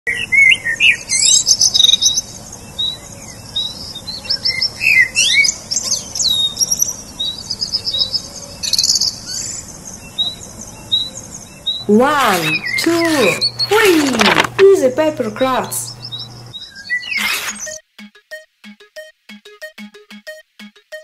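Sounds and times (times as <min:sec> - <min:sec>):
small birds chirping: 0:00.3 - 0:17.8.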